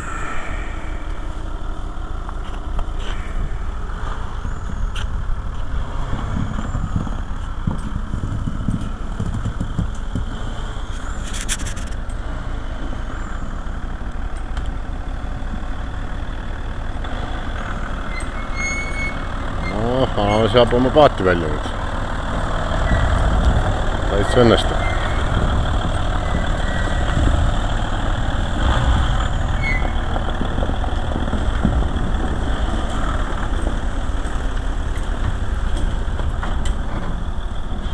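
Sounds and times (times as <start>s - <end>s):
vehicle engine running: 0.0s - 37.9s.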